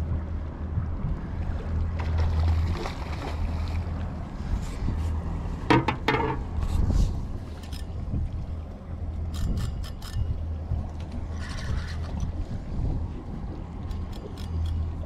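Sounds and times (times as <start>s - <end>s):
boat noise: 0.0s - 15.0s
wind rumble on microphone: 0.0s - 15.0s.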